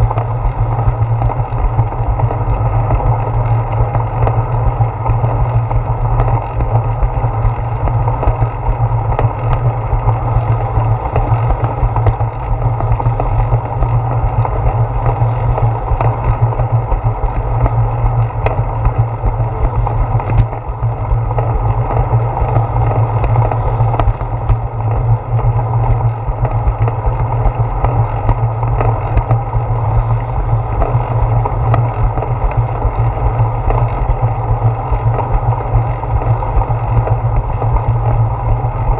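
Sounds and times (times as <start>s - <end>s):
bicycle rolling on concrete: 0.0s - 38.9s.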